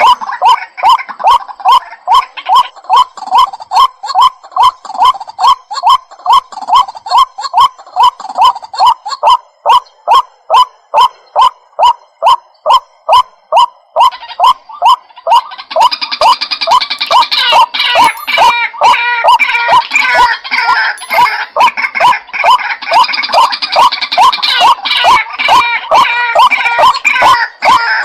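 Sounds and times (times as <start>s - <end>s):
waterhen calling: 0.0s - 28.0s.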